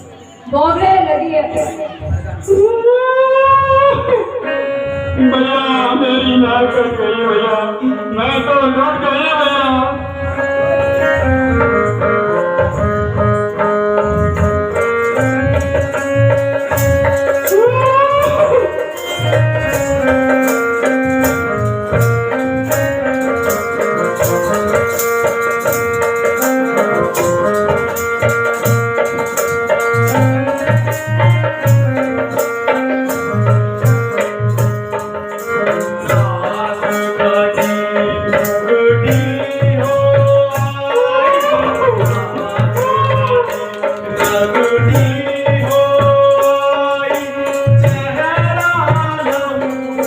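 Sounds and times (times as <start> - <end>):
rattling percussion beat: 8.9 - 50.0.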